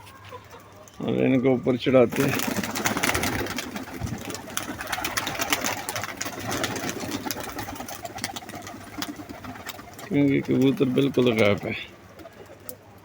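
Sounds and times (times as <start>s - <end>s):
pigeon wings flapping: 1.8s - 13.0s.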